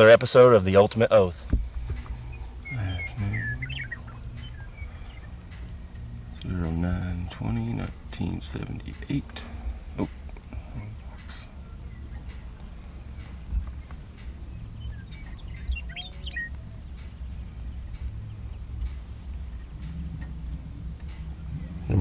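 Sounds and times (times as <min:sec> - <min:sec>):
bird chirps: 0:00.0 - 0:22.0
crickets trilling: 0:00.0 - 0:22.0
low rumble: 0:01.4 - 0:22.0.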